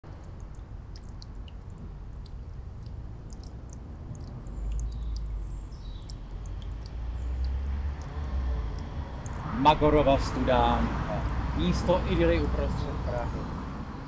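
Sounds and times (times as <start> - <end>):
low city rumble: 0.0 - 14.0.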